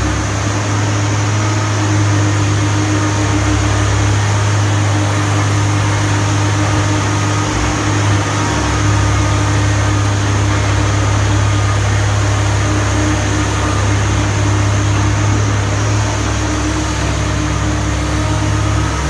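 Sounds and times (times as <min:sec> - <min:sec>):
excavator diesel engine drone: 0:00.0 - 0:19.0.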